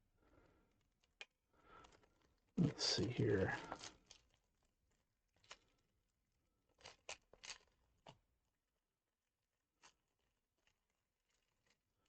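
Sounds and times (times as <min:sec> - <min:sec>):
faint clicks and crinkles: 0:00.2 - 0:12.0.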